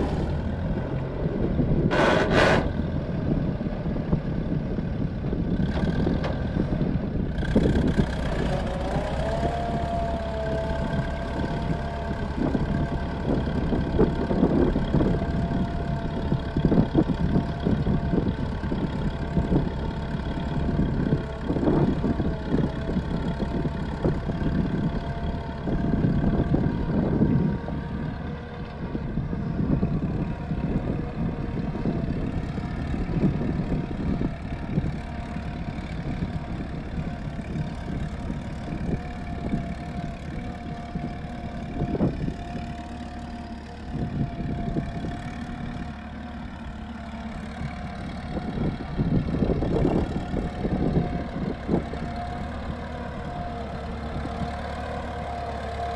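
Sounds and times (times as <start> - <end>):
tractor engine under load: 0.0 - 55.9.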